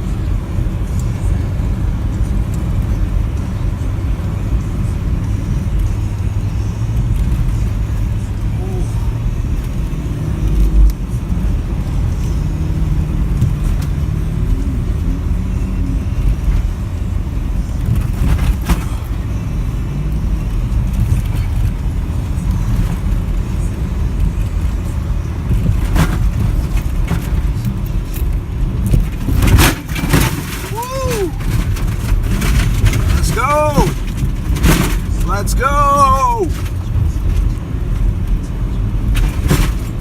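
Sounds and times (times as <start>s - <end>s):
engine and tyres rumbling in snow: 0.0s - 40.0s.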